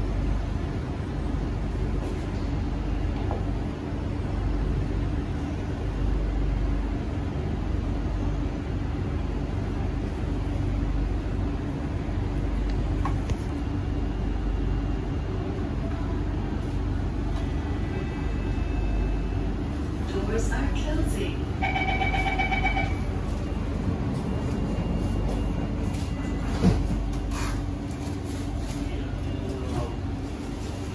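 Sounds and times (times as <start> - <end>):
train car hum: 0.0 - 30.9.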